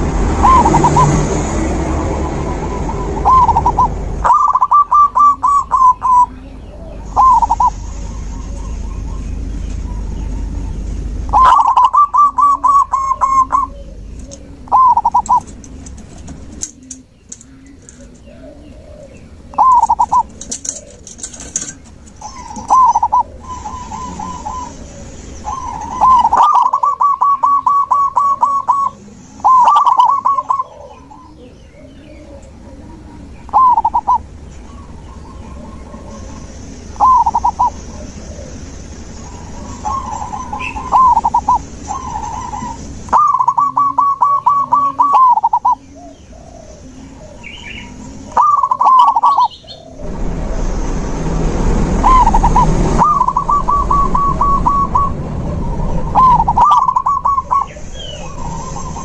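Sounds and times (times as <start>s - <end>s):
doves cooing: 0.0s - 50.7s, 52.0s - 59.0s
birds chirping in background: 0.0s - 59.0s.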